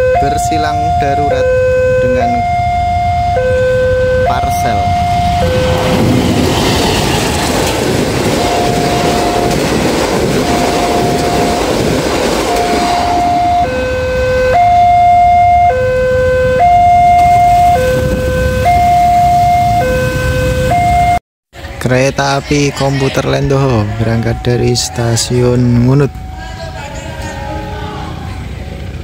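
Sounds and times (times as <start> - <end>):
two-tone warning alarm: 0.0 - 21.2, 23.8 - 27.2
train wagons rumbling on rails: 0.0 - 29.0.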